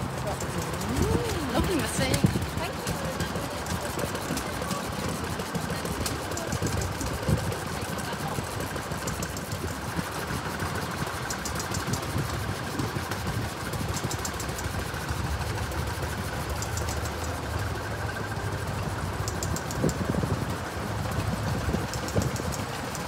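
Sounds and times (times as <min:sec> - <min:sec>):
rapid high ticks: 0:00.0 - 0:23.0
steamroller low mechanical rumble: 0:00.0 - 0:23.0.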